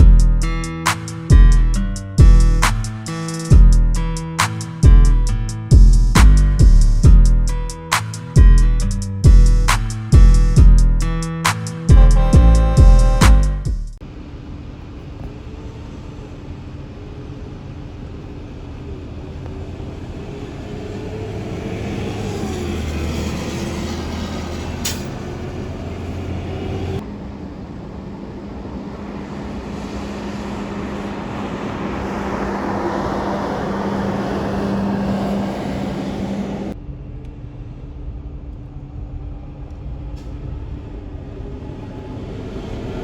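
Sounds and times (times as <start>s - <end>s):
garbage truck diesel engines: 0.0s - 36.8s.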